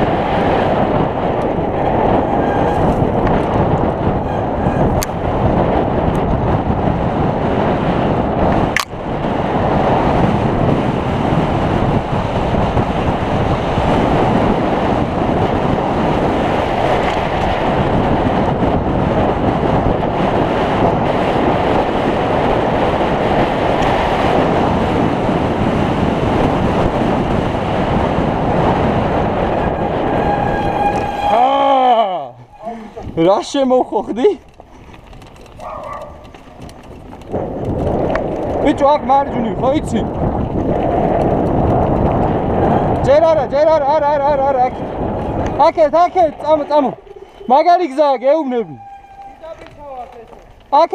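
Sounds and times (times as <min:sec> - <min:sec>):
bike rattling: 0:00.0 - 0:50.9
bike tyre rumble: 0:00.0 - 0:50.9
wind rushing over microphone: 0:00.0 - 0:50.9.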